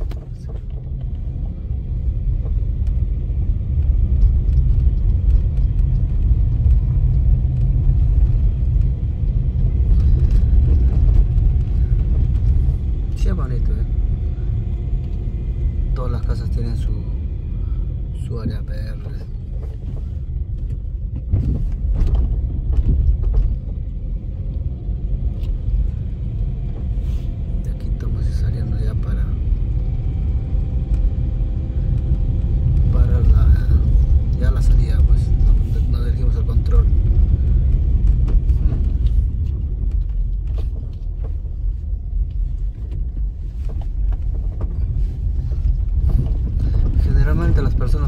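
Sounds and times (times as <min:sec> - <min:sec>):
car driving rumble: 0:00.0 - 0:48.0.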